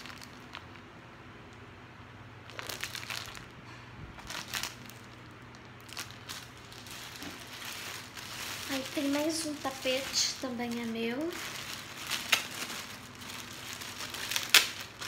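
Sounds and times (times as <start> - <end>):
plastic packaging crinkling: 0.0 - 1.7, 2.3 - 15.0.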